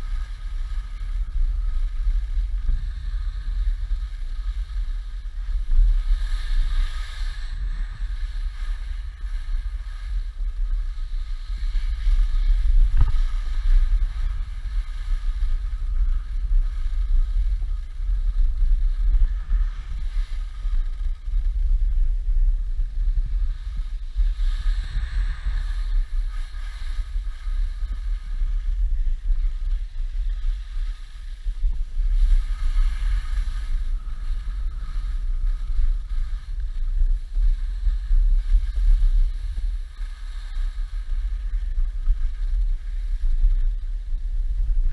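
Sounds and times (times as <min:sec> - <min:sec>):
skis sliding on snow: 0:00.0 - 0:44.9
wind buffeting microphone: 0:00.0 - 0:44.9.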